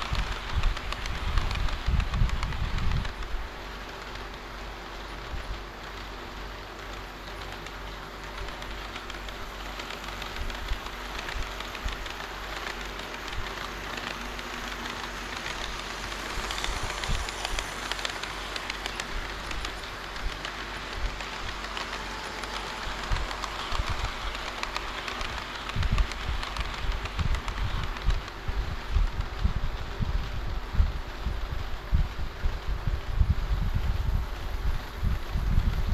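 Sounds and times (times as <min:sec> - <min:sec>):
model train wheels rattling on rail: 0:00.0 - 0:31.8.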